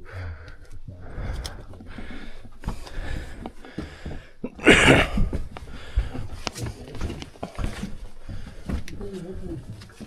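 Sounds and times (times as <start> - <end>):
person crawling scuffing and rustling: 1.6 - 10.0.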